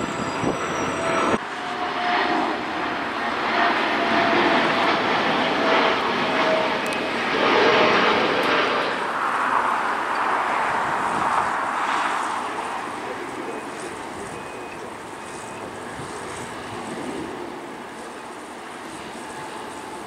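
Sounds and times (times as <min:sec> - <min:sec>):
jet engines taxiing: 0:00.0 - 0:20.0.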